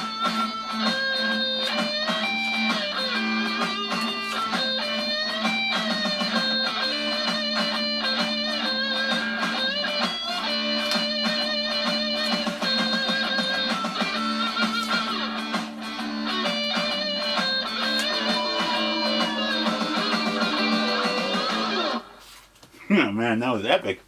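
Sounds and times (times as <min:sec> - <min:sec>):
rock song with guitar solo: 0:00.0 - 0:22.1.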